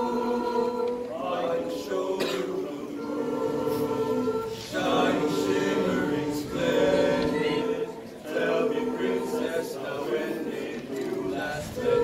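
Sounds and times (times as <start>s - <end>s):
mixed choir singing a cappella: 0.0s - 12.0s.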